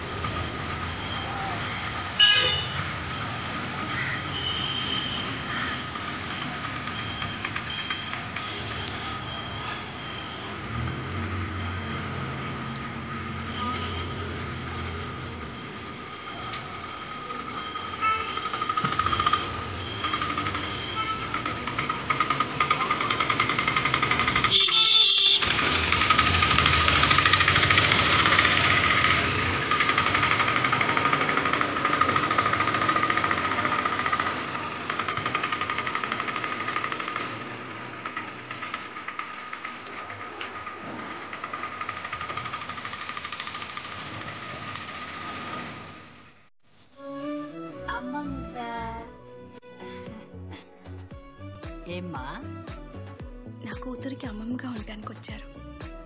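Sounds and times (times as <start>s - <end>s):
street background noise: 0.0s - 56.0s
vehicle engine humming: 0.0s - 56.0s.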